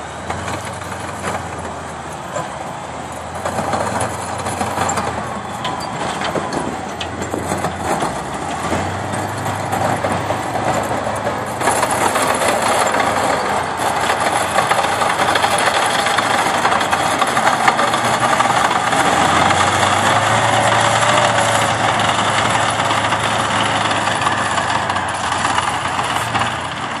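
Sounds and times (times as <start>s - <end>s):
diesel engine running: 0.0s - 27.0s
tracks clattering: 0.0s - 27.0s.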